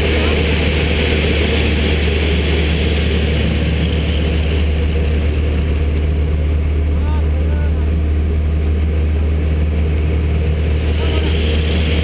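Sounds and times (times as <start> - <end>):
propeller plane engine droning: 0.0 - 12.0
rushing air hiss: 0.0 - 12.0.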